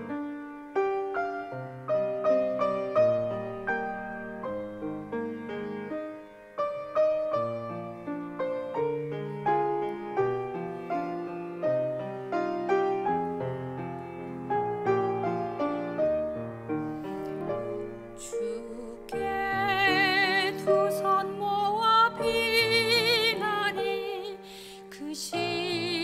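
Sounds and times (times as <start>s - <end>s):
slow gentle solo piano: 0.0s - 26.0s.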